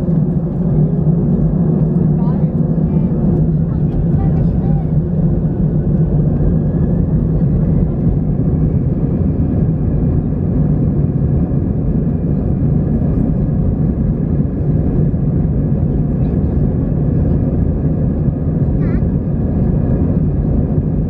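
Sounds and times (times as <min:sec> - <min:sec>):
jet engine cabin roar: 0:00.0 - 0:21.0.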